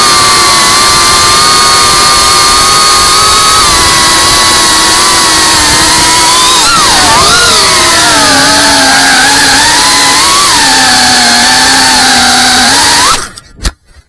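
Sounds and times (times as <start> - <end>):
quadcopter motors whining: 0.0 - 13.4.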